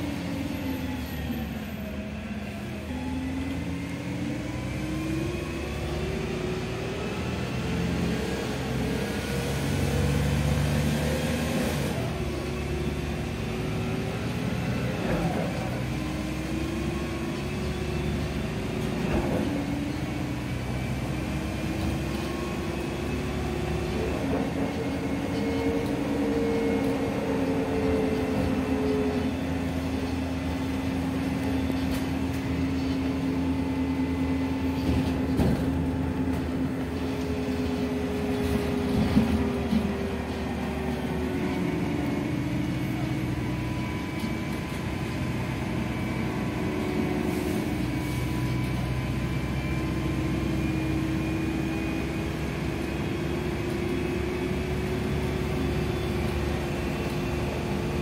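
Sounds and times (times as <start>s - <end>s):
bus engine humming and whining: 0.0s - 58.0s.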